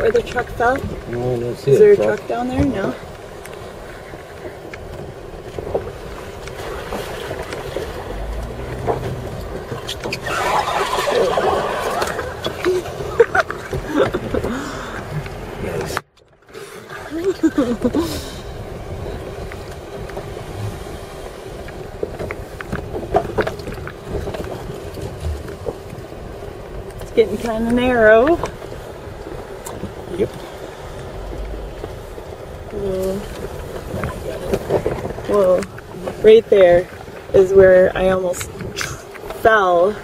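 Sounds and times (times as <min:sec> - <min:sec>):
wind on microphone: 0:00.0 - 0:16.0, 0:16.6 - 0:40.0
engine and tyre rumble: 0:00.0 - 0:40.0.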